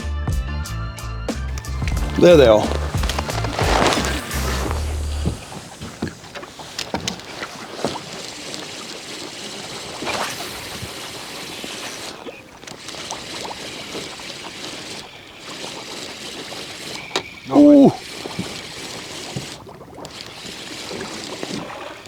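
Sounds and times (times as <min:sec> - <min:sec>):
short splashes: 0:01.5 - 0:22.0
water lapping around boat: 0:01.5 - 0:22.0.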